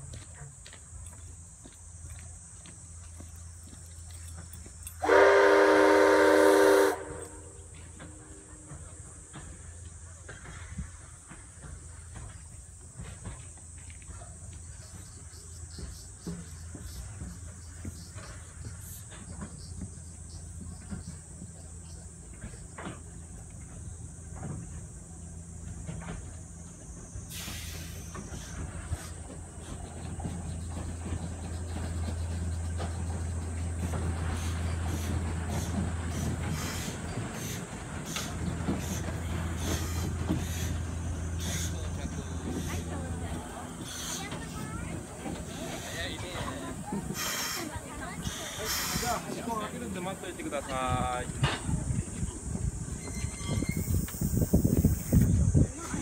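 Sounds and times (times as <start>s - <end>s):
steam locomotive exhaust puffs: 0.8s - 56.0s.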